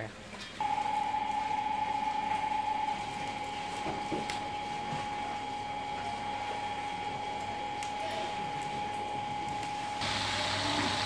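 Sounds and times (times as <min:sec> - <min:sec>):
steady machine hum: 0:00.1 - 0:11.0.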